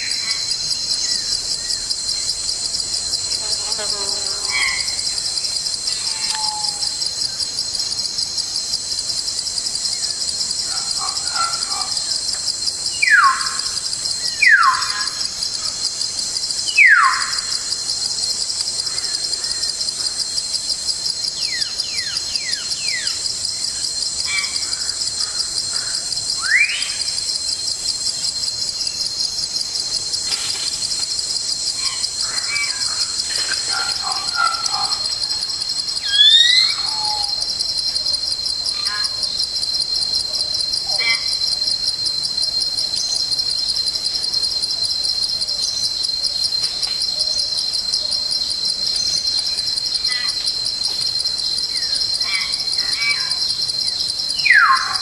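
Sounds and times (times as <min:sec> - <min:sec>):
pulsing insect chorus: 0:00.0 - 0:55.0.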